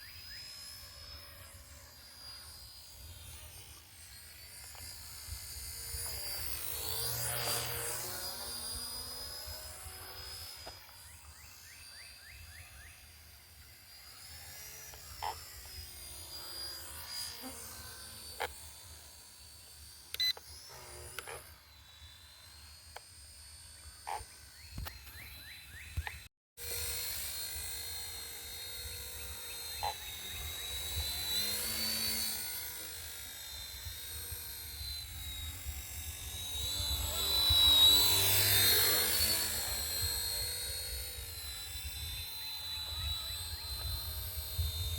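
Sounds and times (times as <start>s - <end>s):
rc helicopter whine: 0.0s - 44.9s.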